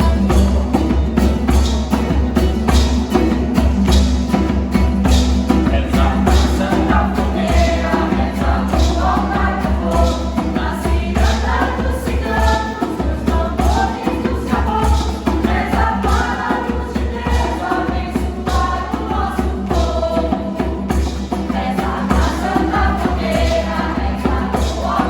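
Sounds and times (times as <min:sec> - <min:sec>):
choir singing with accompaniment: 0:00.0 - 0:25.0.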